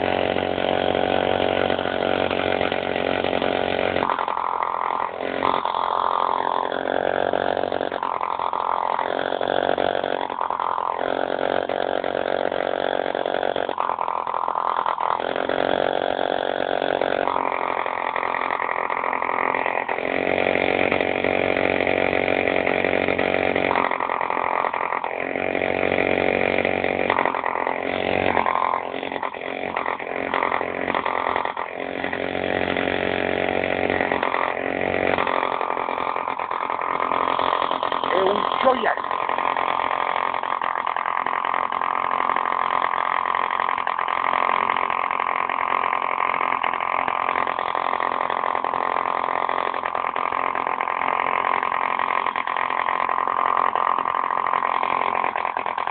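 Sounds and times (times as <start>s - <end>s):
diesel engine running at high speed: 0.0s - 55.9s.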